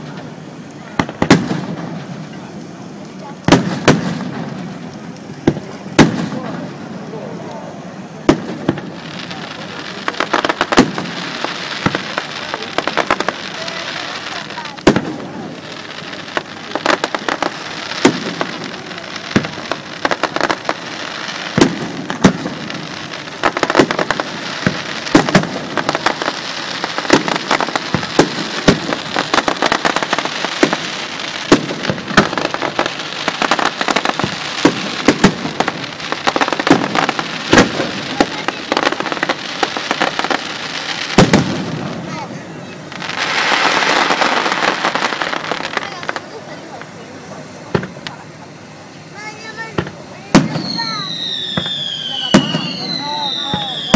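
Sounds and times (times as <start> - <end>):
dense firework crackle: 0.0 - 53.9
firework shells bursting: 0.0 - 53.9.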